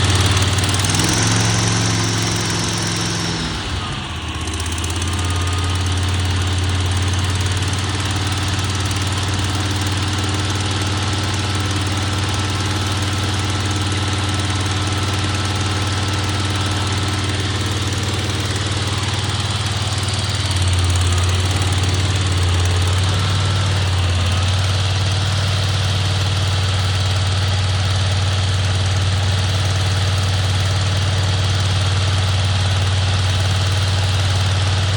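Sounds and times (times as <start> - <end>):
petrol engine running: 0.0 - 34.9.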